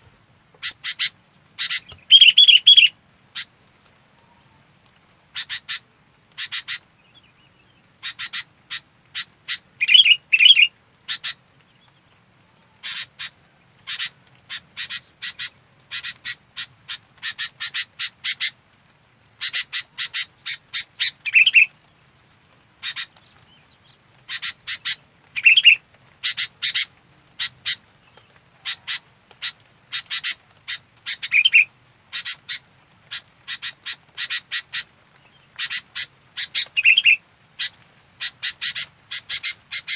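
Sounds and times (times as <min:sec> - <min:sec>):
bird chattering calls: 0:00.6 - 0:03.5, 0:05.3 - 0:07.2, 0:07.9 - 0:11.4, 0:12.8 - 0:18.6, 0:19.4 - 0:21.7, 0:22.8 - 0:23.4, 0:24.2 - 0:39.9.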